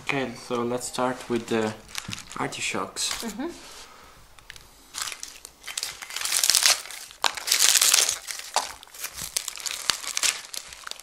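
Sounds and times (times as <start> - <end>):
dried plant crackling: 0.6 - 3.8, 4.4 - 11.0.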